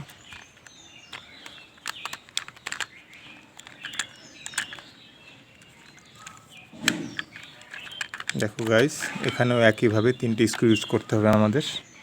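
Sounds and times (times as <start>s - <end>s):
plastic toy parts clicking: 0.0s - 11.6s.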